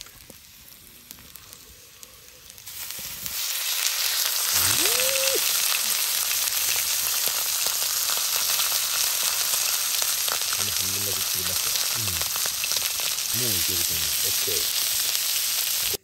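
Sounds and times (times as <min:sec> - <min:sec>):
meat sizzling: 0:00.0 - 0:16.0.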